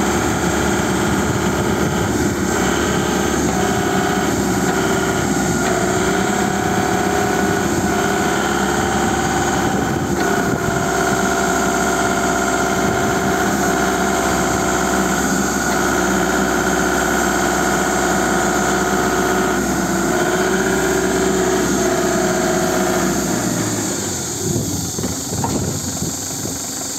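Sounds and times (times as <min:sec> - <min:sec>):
forklift engine running: 0:00.0 - 0:26.9.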